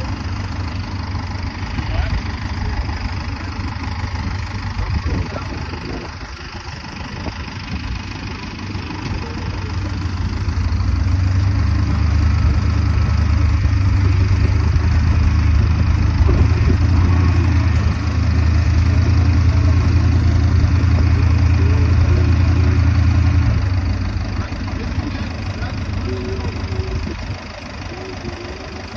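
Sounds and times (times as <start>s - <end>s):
vehicle engine rumbling: 0.0s - 28.9s.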